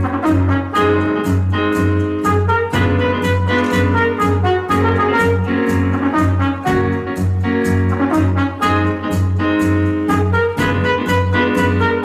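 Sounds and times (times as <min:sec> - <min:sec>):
brass: 0:00.0 - 0:12.0
piano: 0:00.0 - 0:12.0
steady bass beat: 0:00.0 - 0:12.0
trumpet: 0:00.0 - 0:12.0.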